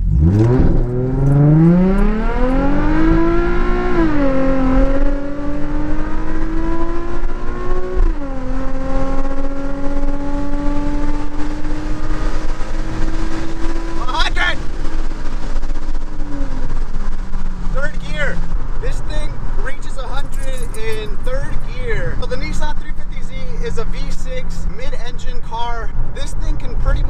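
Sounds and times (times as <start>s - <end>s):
car engine accelerating hard: 0.0s - 22.8s
rushing wind: 0.0s - 27.0s.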